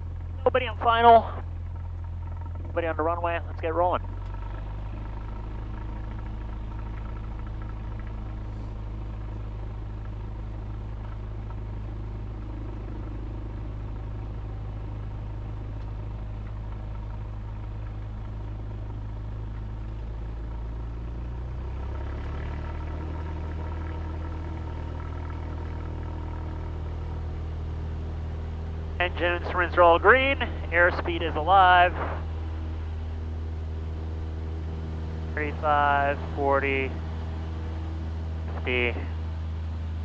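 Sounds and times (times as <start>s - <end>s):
small plane engine revving up: 0.9s - 40.0s.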